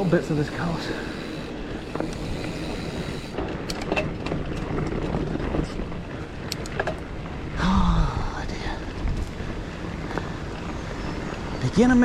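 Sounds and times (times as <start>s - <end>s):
bike clicking and rattling: 0.0s - 7.6s, 8.6s - 12.0s
bike tyres rumbling on dirt: 0.0s - 12.0s
wind: 0.0s - 12.0s.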